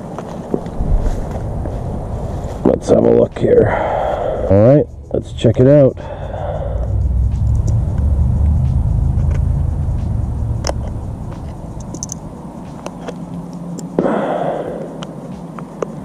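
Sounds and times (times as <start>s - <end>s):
low rumble: 0.2s - 13.8s.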